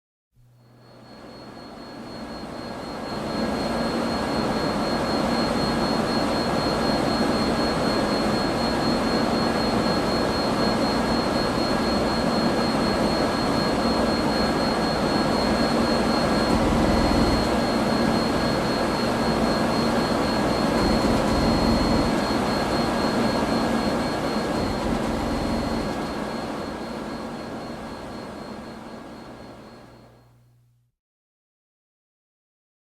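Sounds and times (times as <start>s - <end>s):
computer hum: 0.7s - 30.2s
thin high ringing tone: 0.8s - 30.0s.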